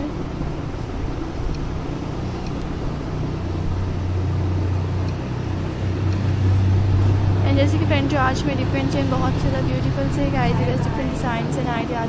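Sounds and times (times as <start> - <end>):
background rumble and hiss: 0.0 - 12.0
low hum: 0.0 - 12.0.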